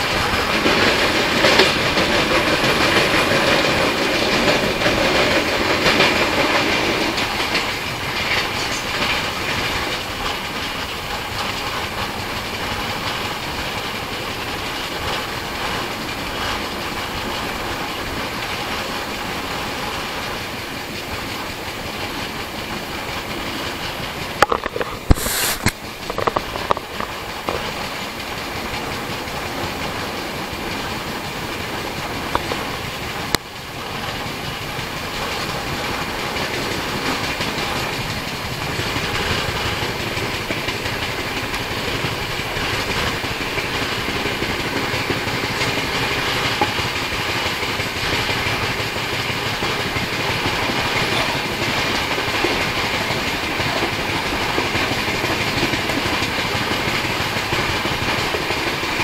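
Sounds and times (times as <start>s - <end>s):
train coaches rumbling and rattling: 0.0s - 59.0s
wheels clicking over rail joints: 0.0s - 59.0s.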